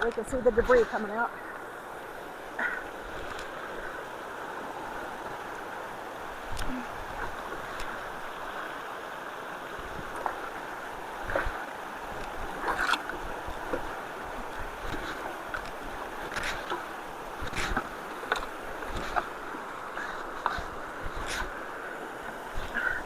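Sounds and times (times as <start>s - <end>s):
water rushing from culvert: 0.0s - 23.0s.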